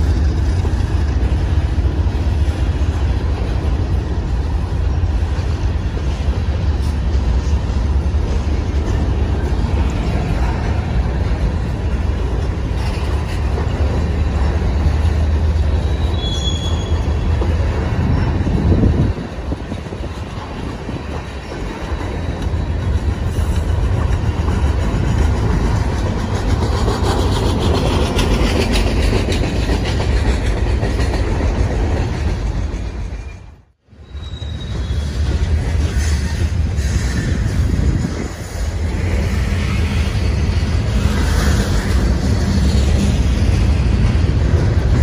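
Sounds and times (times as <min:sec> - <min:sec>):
freight train wheels rumbling on rail: 0:00.0 - 0:45.0.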